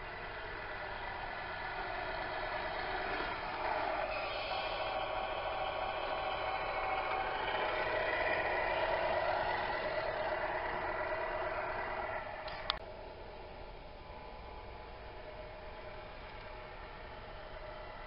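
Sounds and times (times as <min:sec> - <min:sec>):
toy truck driving: 0:00.0 - 0:18.0.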